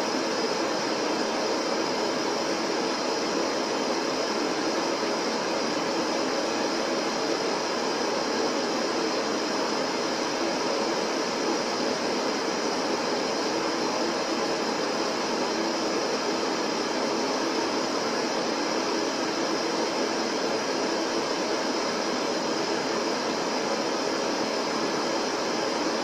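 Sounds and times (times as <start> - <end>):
steady static hiss: 0.0 - 26.0.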